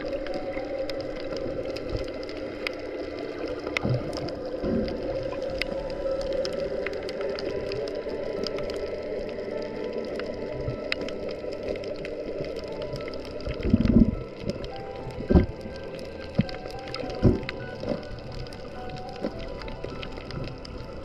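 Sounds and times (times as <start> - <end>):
muffled underwater hum: 0.0 - 21.0
sharp underwater clicks: 0.0 - 21.0.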